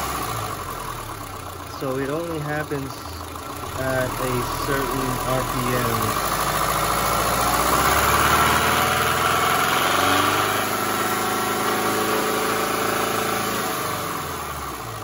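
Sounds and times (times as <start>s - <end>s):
car engine revving: 0.0s - 15.0s
engine noise: 0.0s - 15.0s.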